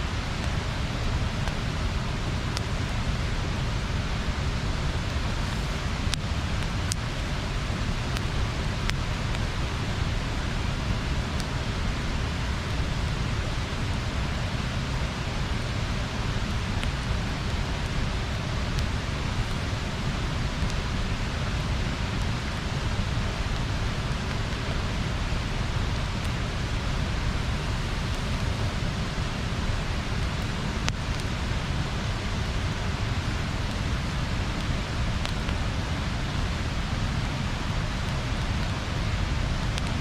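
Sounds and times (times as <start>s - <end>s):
water rushing over a weir: 0.0s - 40.0s.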